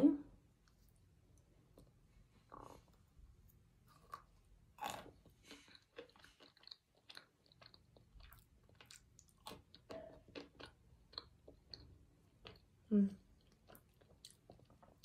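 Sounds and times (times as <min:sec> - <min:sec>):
person chewing with mouth clicks: 0:01.7 - 0:15.0.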